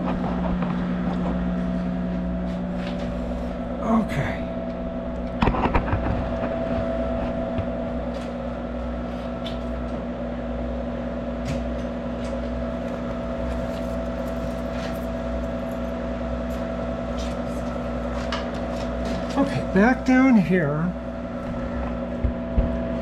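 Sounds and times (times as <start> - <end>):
lathe humming: 0.0 - 23.0.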